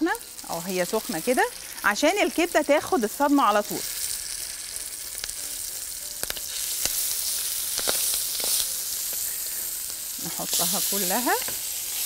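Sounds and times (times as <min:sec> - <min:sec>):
liver sizzling in hot oil: 0:00.0 - 0:12.0.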